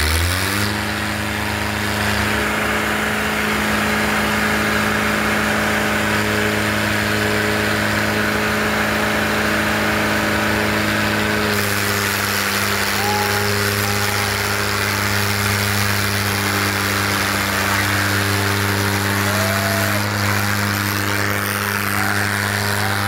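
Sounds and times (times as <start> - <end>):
tractor diesel engine at high revs: 0.0 - 23.0.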